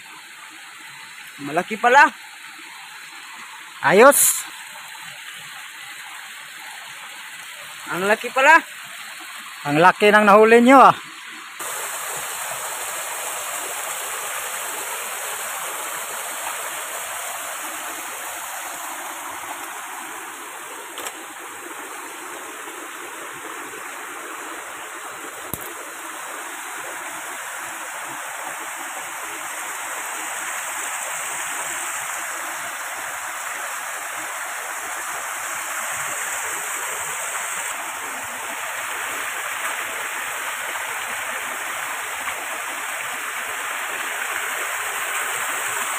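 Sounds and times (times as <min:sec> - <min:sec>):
stream water over stones: 0:00.0 - 0:45.9.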